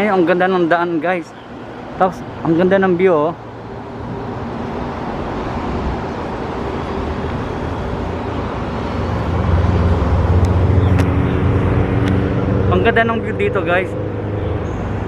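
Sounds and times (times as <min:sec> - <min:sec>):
rush of traffic: 0:00.0 - 0:15.0
vehicle engine hum: 0:00.0 - 0:15.0.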